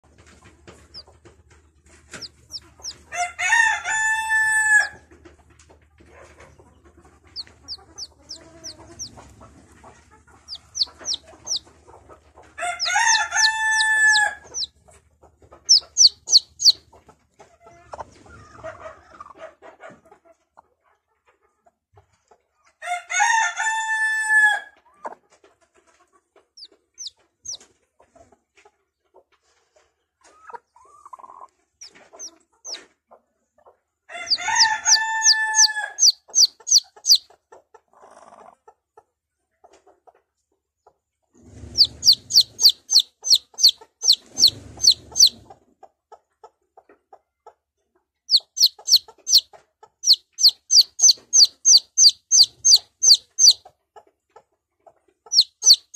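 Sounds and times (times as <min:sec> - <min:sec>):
chick peeping: 0:00.0 - 0:22.4, 0:23.7 - 0:29.3, 0:30.2 - 0:55.9.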